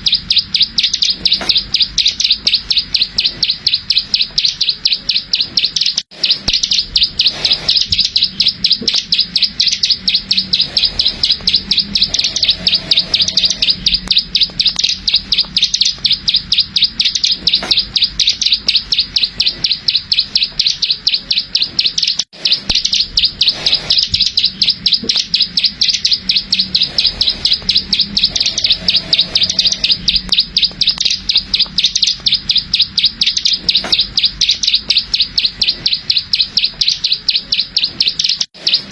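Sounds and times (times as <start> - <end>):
bird rapid clicking call: 0.0 - 38.9.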